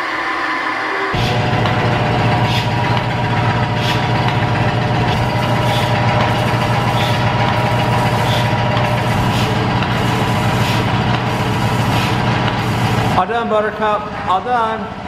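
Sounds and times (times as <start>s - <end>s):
milking machine vacuum drone: 0.0s - 13.3s
pulsator hissing: 0.9s - 13.2s.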